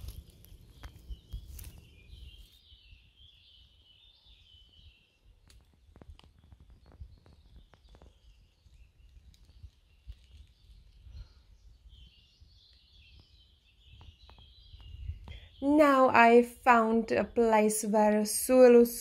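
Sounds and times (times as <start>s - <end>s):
high bird chirping: 0.0s - 5.4s, 6.4s - 17.6s.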